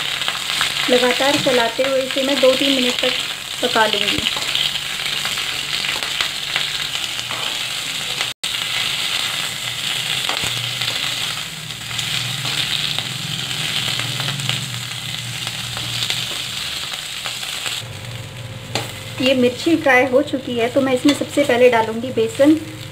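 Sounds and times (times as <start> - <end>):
chillies sizzling in hot oil: 0.0 - 22.9.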